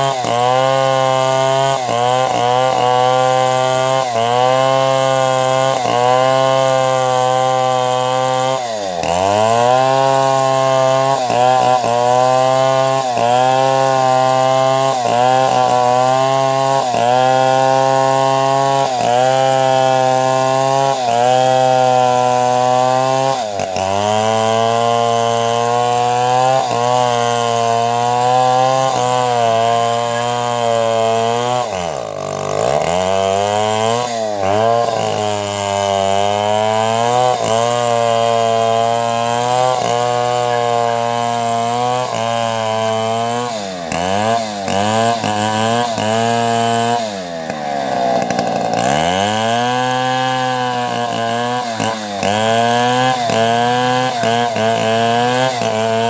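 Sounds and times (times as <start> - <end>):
chainsaw cutting timber: 0.0 - 56.0.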